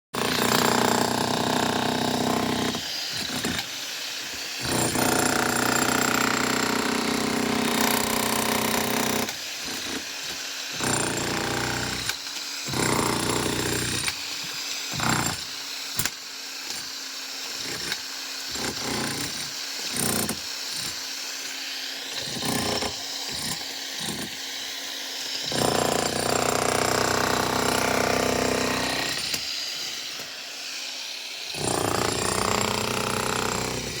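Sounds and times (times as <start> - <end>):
power tool cutting concrete: 0.2 - 34.0.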